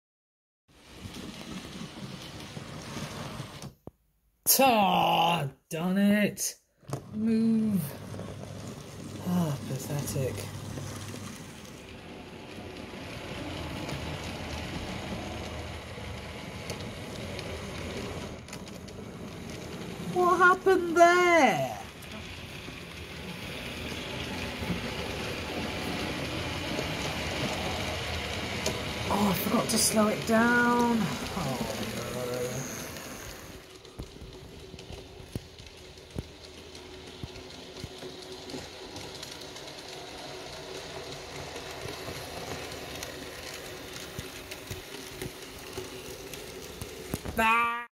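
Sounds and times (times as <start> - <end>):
model train rumbling: 0.8 - 3.7, 7.0 - 47.9.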